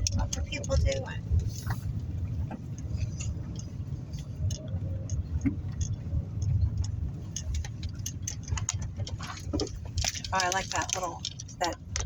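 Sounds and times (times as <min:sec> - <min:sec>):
car road rumble from inside: 0:00.0 - 0:12.0
light clicks and ticks: 0:00.0 - 0:12.0.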